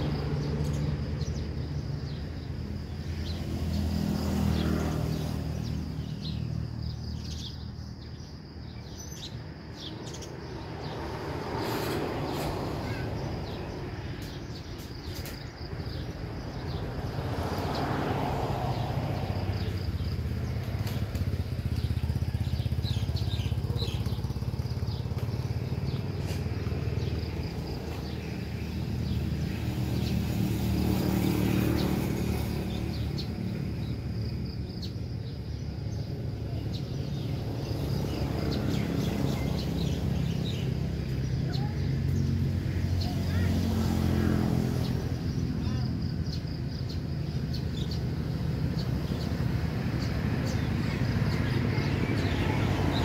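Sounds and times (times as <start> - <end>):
rumble of passing road vehicles: 0.0 - 53.0.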